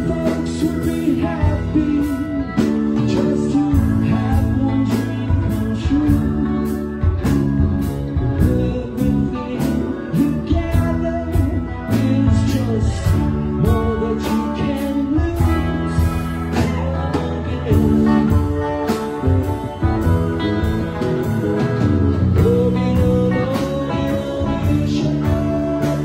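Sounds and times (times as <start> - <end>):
drums with cymbal beat: 0.0 - 26.0
electric bass: 0.0 - 26.0
electric guitar: 0.0 - 26.0
person singing: 0.0 - 26.0.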